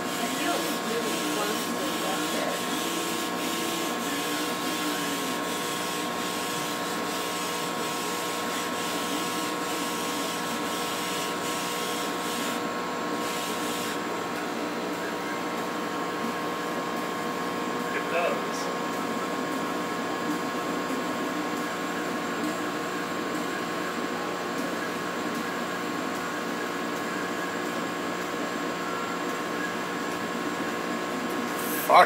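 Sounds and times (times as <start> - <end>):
laser head motor tones: 0.0 - 32.0.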